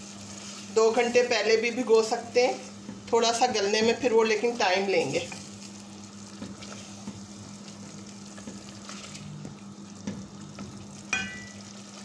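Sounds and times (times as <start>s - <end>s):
food sizzling in a pot: 0.0s - 12.0s
steady low hum: 0.0s - 12.0s.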